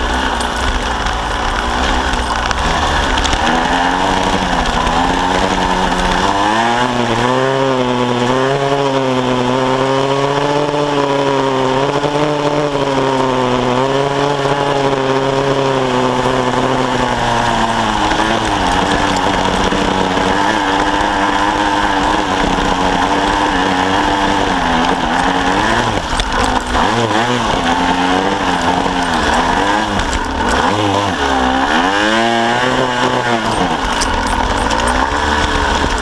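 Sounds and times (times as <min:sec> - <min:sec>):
two-stroke motorcycle engine revving: 0:00.0 - 0:36.0.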